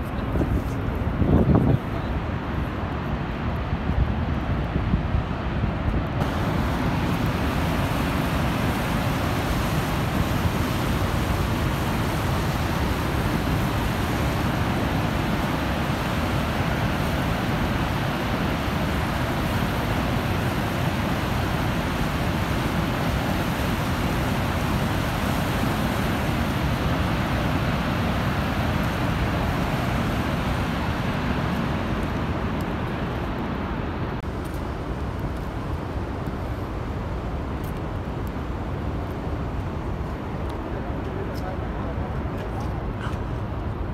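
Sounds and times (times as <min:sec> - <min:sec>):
waterfall roaring: 0:01.9 - 0:43.9.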